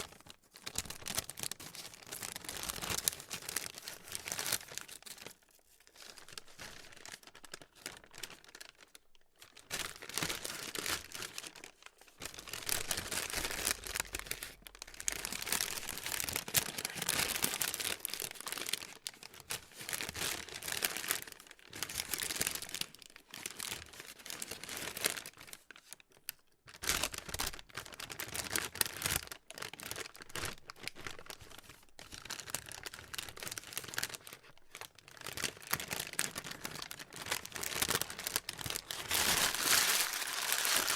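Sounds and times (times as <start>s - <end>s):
plastic crinkling: 0.0s - 40.9s.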